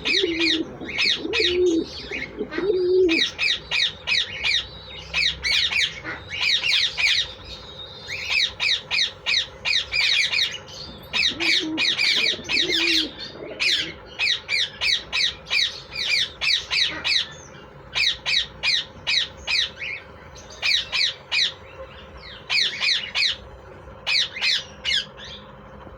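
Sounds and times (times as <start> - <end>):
parakeets squawking: 0.0 - 25.8.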